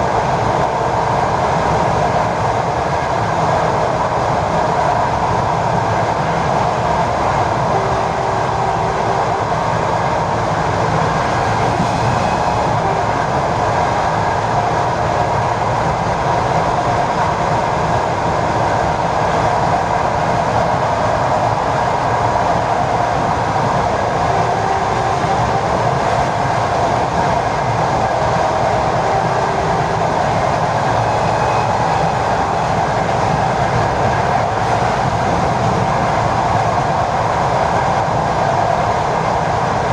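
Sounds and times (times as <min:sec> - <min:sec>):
train wheels rumbling: 0:00.0 - 0:39.9.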